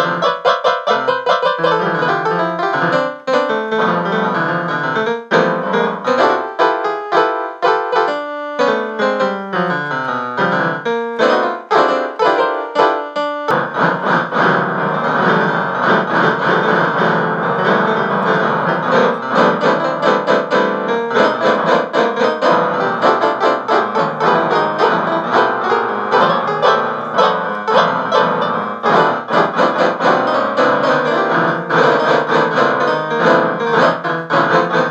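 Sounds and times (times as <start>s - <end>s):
piano music: 0.0s - 34.9s.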